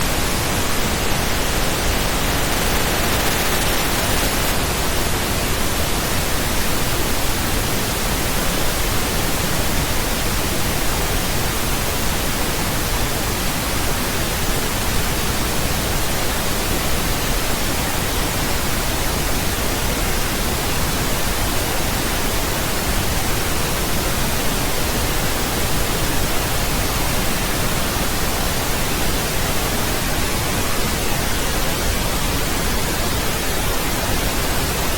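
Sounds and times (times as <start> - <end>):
steady pink noise hiss: 0.0 - 34.9.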